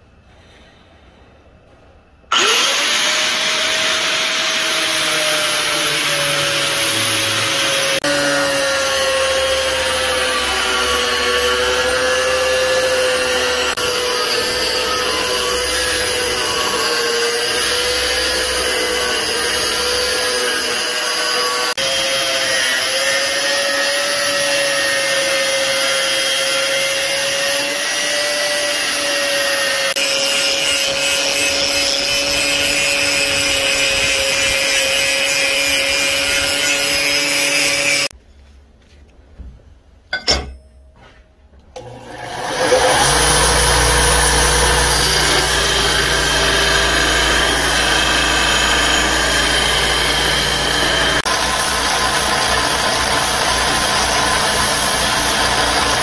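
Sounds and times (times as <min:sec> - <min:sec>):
angle grinder cutting steel: 0:02.3 - 0:38.1, 0:41.8 - 0:56.0.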